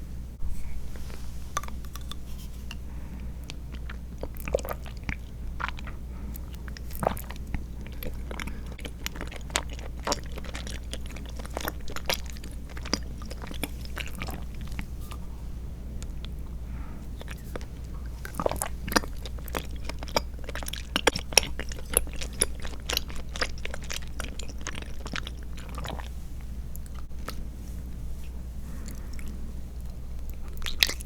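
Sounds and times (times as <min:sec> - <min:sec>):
steady low hum: 0:00.0 - 0:31.0
close chewing with wet mouth clicks: 0:01.6 - 0:15.0, 0:17.1 - 0:27.4, 0:28.8 - 0:31.0.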